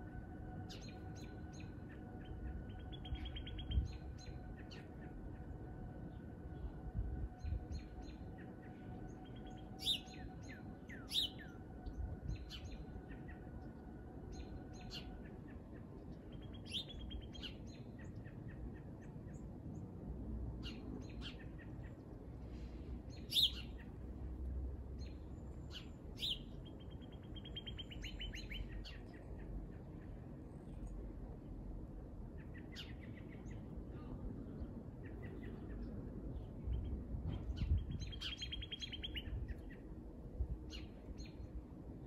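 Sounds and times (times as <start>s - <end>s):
faint steady hum: 0.0s - 42.0s
low background rumble: 0.0s - 42.0s.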